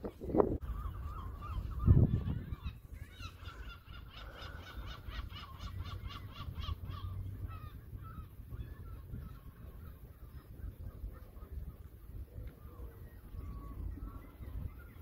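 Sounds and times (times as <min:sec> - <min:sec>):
wind rumble on microphone: 0:00.0 - 0:15.0
birds calling in sharp notes: 0:00.6 - 0:15.0.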